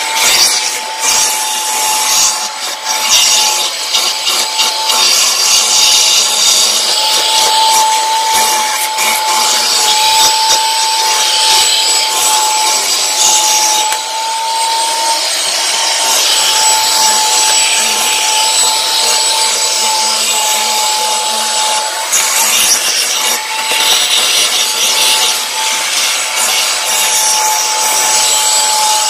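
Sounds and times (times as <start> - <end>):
backpack vacuum whining: 0.0 - 29.0
vacuum tool sweeping carpet: 0.0 - 29.0.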